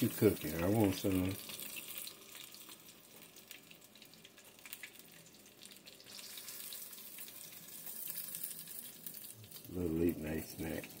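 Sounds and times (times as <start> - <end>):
hot oil frying: 0.0 - 11.0.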